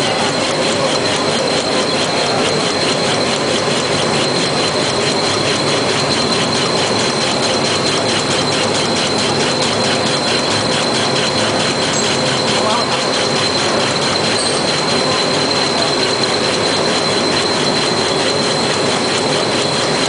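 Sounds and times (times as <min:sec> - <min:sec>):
fast ticking of rollers: 0:00.0 - 0:20.0
high machine whine: 0:00.0 - 0:20.0
rewinding machine running: 0:00.0 - 0:20.0.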